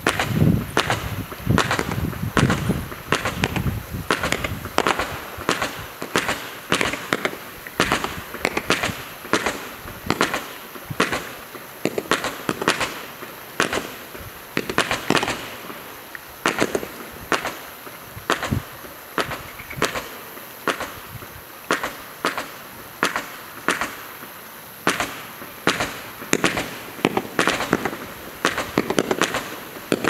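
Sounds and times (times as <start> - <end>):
firework pops and crackle: 0.0 - 30.0.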